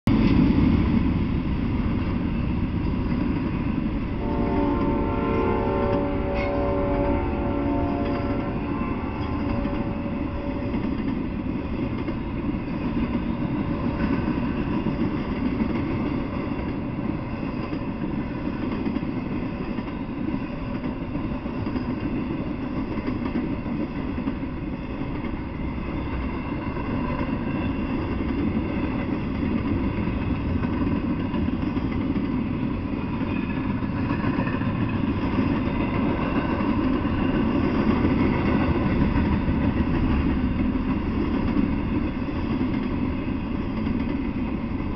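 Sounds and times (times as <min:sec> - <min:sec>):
freight train wheels rumbling: 0:00.0 - 0:44.9.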